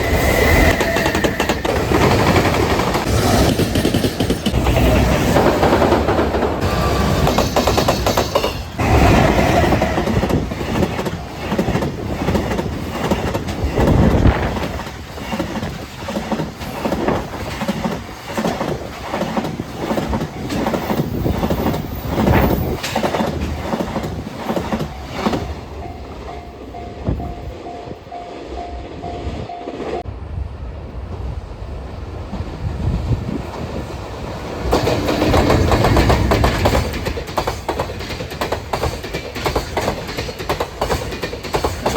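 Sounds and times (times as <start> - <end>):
wheels clacking over rail joints: 0.0 - 27.7, 31.0 - 41.9.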